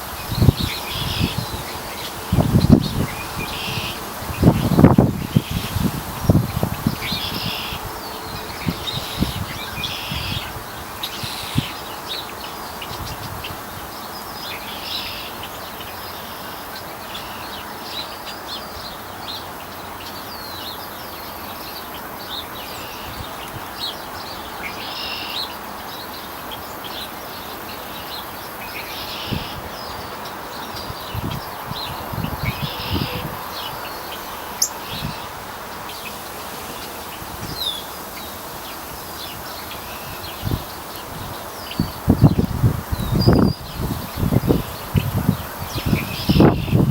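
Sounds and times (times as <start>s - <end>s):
outdoor hiss: 0.0s - 46.9s
small birds chirping: 0.0s - 46.9s.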